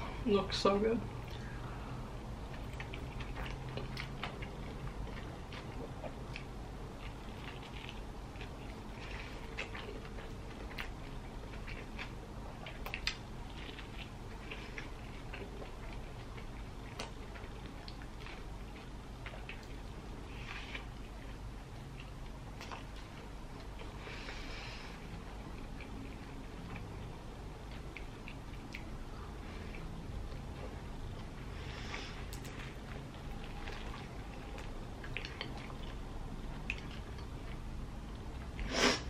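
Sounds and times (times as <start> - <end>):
person chewing food: 1.2 - 38.7.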